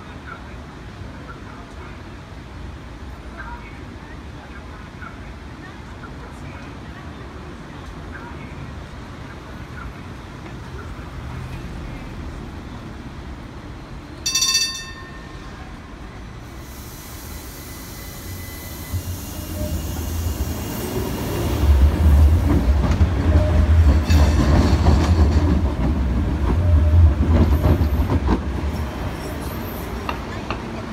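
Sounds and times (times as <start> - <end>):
tram motors and wheels rumbling: 0.0 - 30.9.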